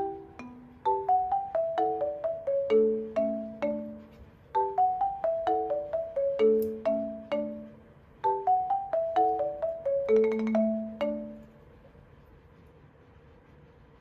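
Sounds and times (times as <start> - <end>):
marimba-like mallet melody: 0.0 - 11.6.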